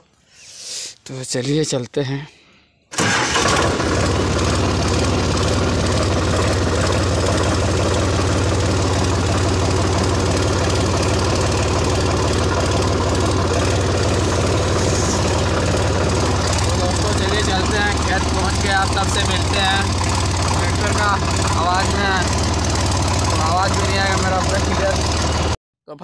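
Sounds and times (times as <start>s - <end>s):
tractor diesel engine running: 2.9s - 25.6s.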